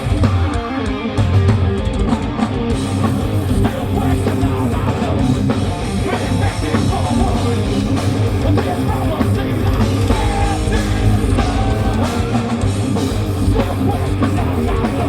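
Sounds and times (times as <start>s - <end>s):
distorted electric guitars: 0.0s - 15.0s
fast drum kit: 0.0s - 15.0s.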